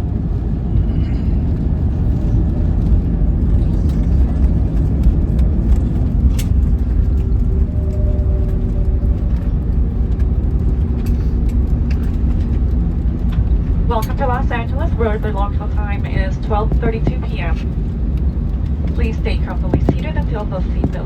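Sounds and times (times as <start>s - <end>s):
aircraft engine and wheel rumble: 0.0s - 21.0s.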